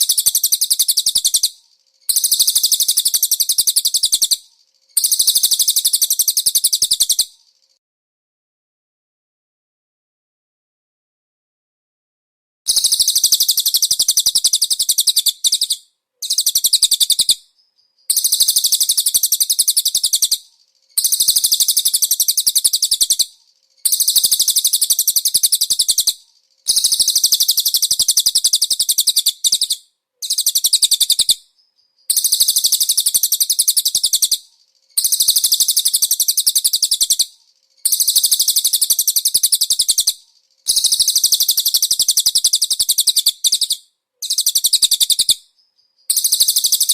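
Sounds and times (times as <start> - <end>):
bird rapid trilling song: 0.0 - 7.8, 12.7 - 46.9.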